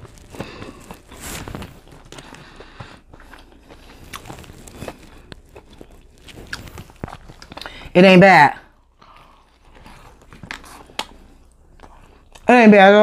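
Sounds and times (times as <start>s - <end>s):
person chewing crunchy food: 0.0s - 8.0s, 8.7s - 12.5s.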